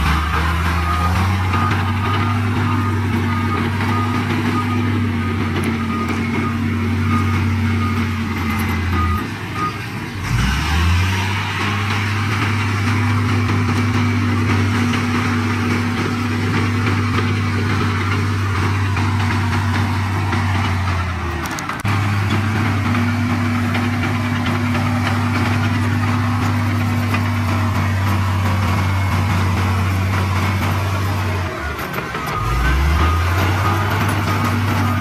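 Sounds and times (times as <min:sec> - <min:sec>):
heavy diesel engine running: 0:00.0 - 0:35.0
reversing alarm beeping: 0:00.0 - 0:35.0.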